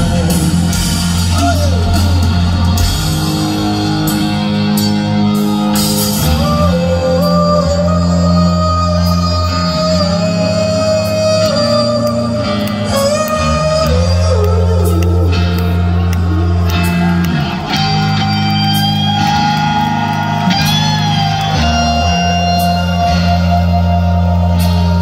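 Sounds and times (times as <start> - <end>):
electric guitar lead: 0.0 - 25.0
low bass notes: 0.0 - 25.0.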